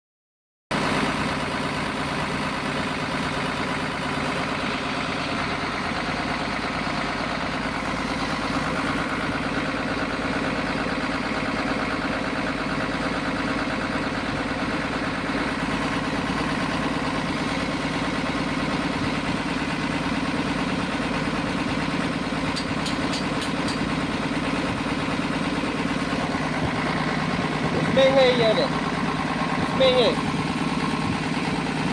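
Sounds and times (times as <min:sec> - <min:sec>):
diesel engine idling: 0:00.7 - 0:31.9.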